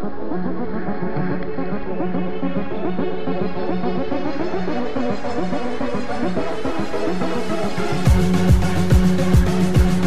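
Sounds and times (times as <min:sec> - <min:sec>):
background music with repeating notes: 0:00.0 - 0:10.0.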